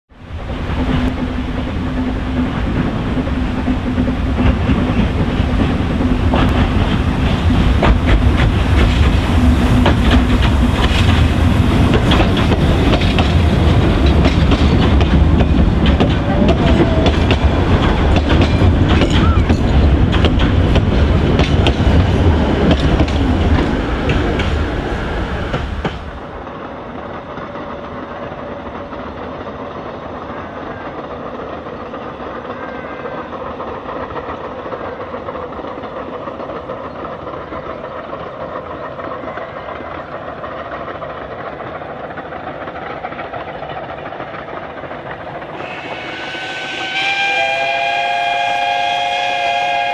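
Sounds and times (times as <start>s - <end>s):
distant train: 0.1s - 49.9s
steam train rumbling past: 0.1s - 49.9s.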